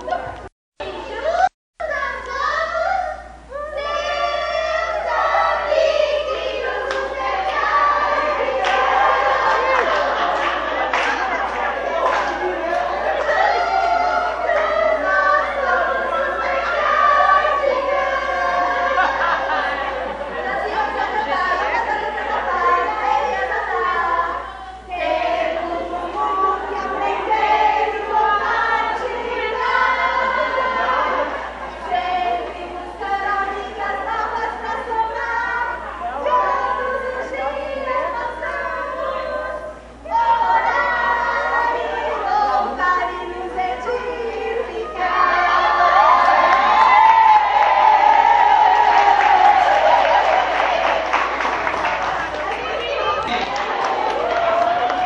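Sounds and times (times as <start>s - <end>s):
young voices singing in unison: 1.0s - 55.0s.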